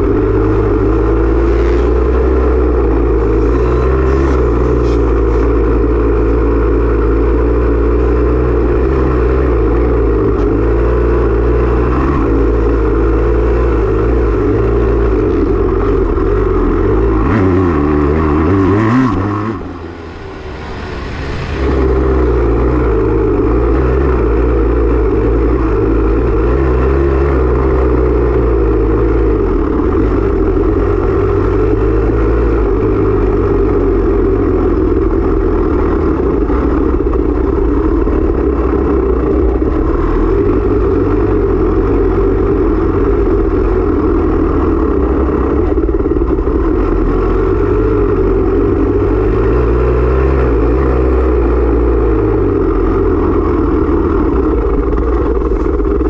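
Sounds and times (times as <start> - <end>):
dirt bike engine revving: 0.0 - 6.1, 8.3 - 56.0.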